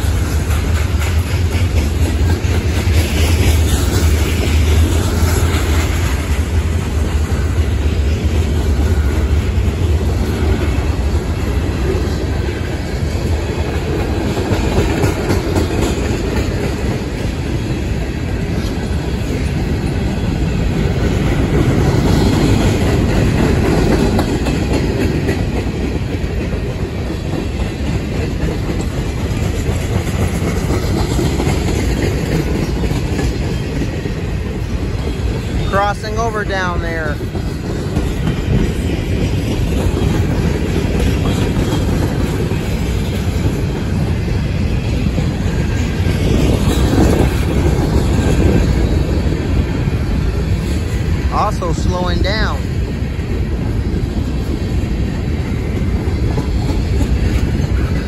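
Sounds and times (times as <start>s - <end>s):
freight train wheels clattering on rails: 0.0s - 58.0s.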